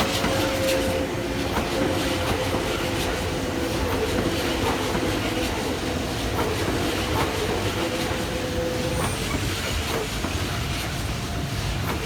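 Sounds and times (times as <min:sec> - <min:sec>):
electric train running past: 0:00.0 - 0:12.0
train wheels clacking over rail joints: 0:00.0 - 0:12.0.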